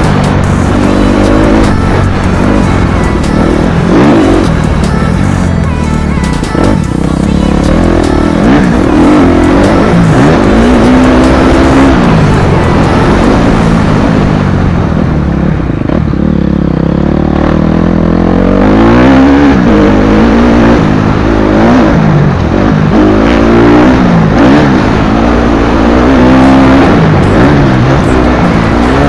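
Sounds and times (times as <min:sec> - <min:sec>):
motocross bike engine revving: 0:00.0 - 0:14.9, 0:15.6 - 0:29.0.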